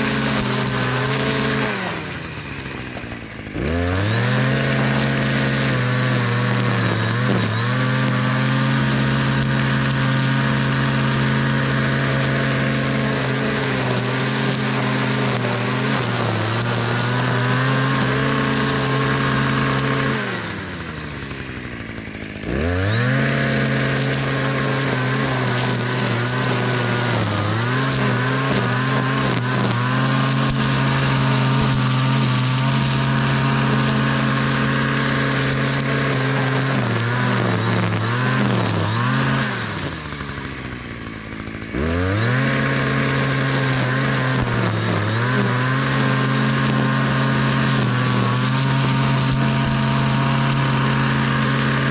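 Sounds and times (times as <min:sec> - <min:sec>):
string trimmer engine revving: 0:00.0 - 0:51.9.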